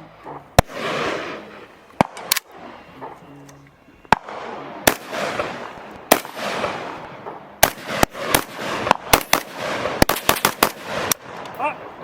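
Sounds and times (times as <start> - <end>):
rifle shots with echo: 0.2 - 3.3, 4.0 - 12.0.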